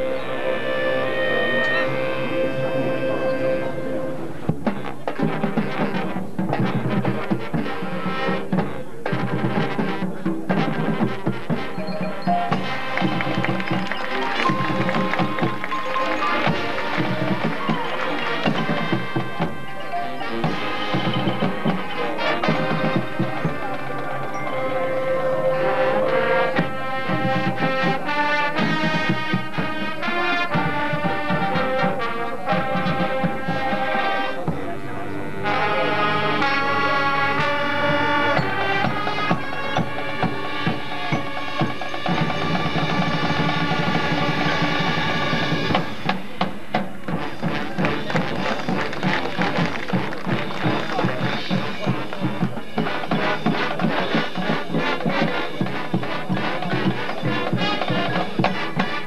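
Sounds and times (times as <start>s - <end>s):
wind-instrument chords: 0.0s - 59.0s
drumline beat: 4.4s - 24.4s, 25.6s - 34.7s, 37.1s - 59.0s.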